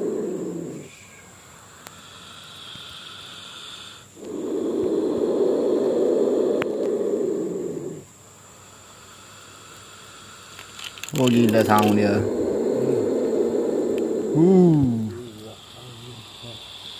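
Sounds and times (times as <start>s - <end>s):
snake hissing: 0.0s - 16.9s.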